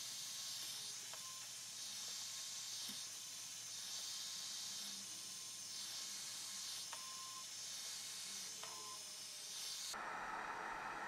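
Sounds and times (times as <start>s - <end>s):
heat gun blowing hiss: 0.0s - 11.0s.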